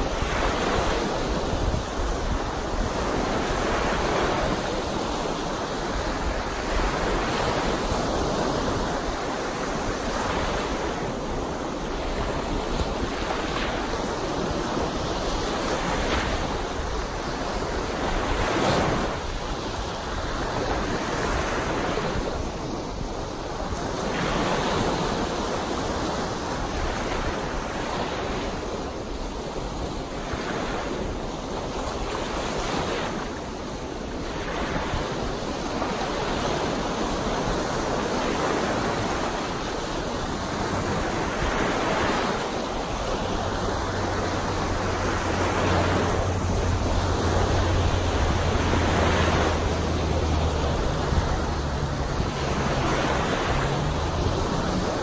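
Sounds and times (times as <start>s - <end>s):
waves washing on beach: 0.0s - 55.0s
wind over water: 0.0s - 55.0s.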